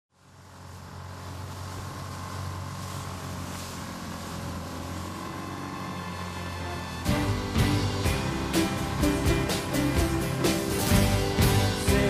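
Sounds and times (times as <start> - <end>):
outboard engine hum: 0.1 - 12.0
boat wash rushing: 0.2 - 12.0.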